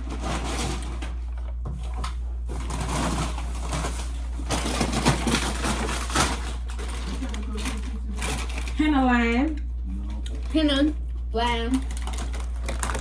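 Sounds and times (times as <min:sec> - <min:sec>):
chewing and crunching food: 0:00.0 - 0:13.0
steady low hum: 0:00.0 - 0:13.0.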